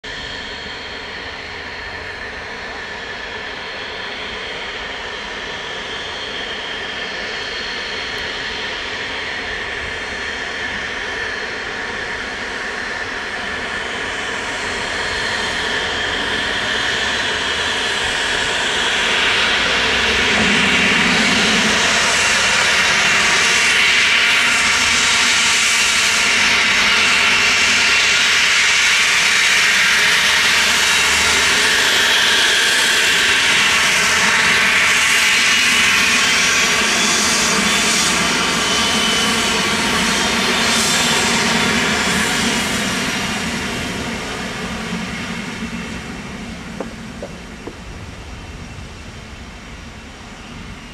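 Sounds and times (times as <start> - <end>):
jet engines whining and roaring: 0.0 - 50.9.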